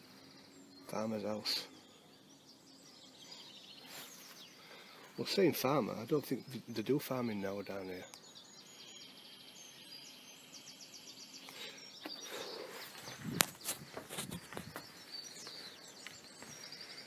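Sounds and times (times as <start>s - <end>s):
small birds chirping and trilling: 0.0s - 17.0s.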